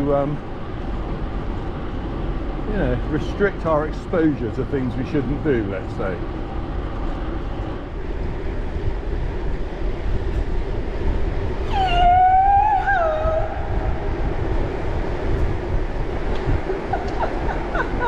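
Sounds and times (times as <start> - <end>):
rolling road noise: 0.0 - 18.0
wind rumble: 0.0 - 18.0.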